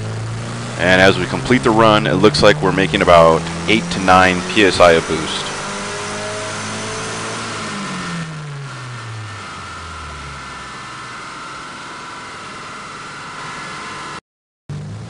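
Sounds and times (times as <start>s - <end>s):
engine winding down: 0.0s - 15.0s
steady whine and rushing: 0.0s - 15.0s.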